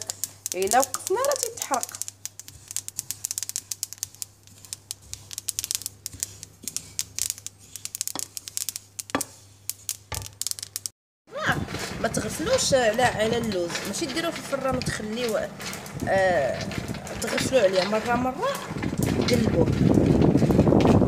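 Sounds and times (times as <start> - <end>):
wooden spoon stirring seeds in pan: 0.0 - 21.0.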